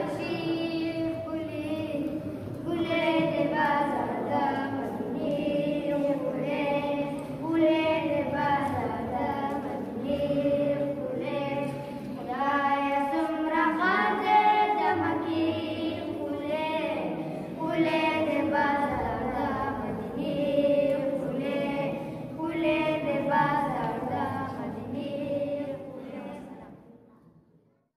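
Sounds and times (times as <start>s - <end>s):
boys singing unaccompanied: 0.0s - 26.8s.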